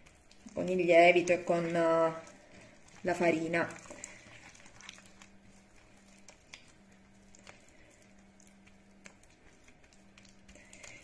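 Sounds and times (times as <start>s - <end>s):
faint low hum: 0.0s - 11.0s
fingers squishing dough: 0.0s - 11.0s
small wet clicks: 0.0s - 11.0s.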